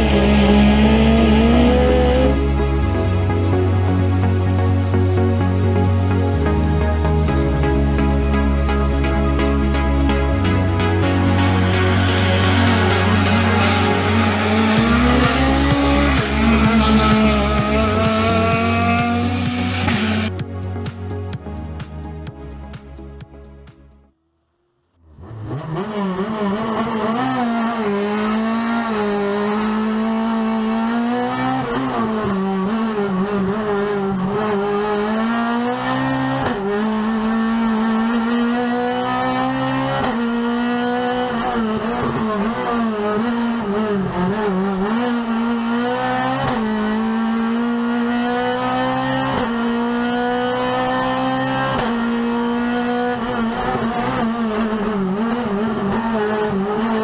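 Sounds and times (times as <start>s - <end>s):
race car engine at high revs: 0.0s - 4.2s, 7.9s - 20.4s, 24.5s - 57.0s.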